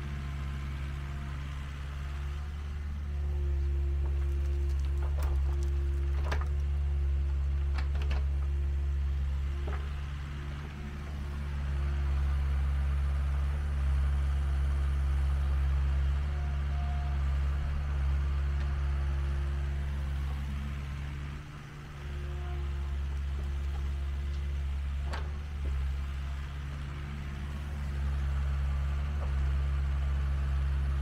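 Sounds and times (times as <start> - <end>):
excavator diesel engine hum: 0.0 - 31.0.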